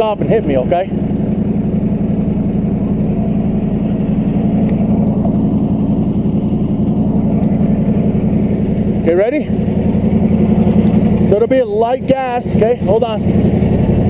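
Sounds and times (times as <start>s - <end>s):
heavy vehicle engine idling: 0.0s - 14.0s.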